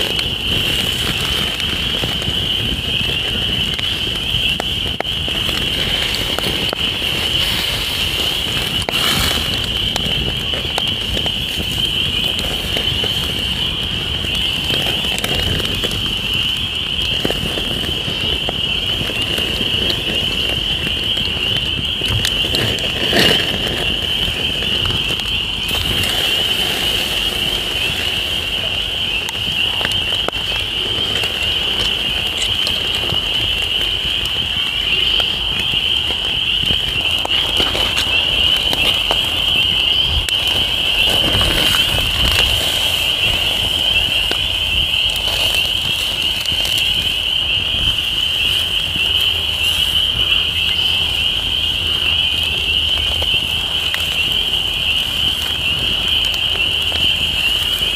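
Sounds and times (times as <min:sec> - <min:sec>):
campfire crackling: 0:00.0 - 0:57.9
frog chorus trilling: 0:00.0 - 0:57.9.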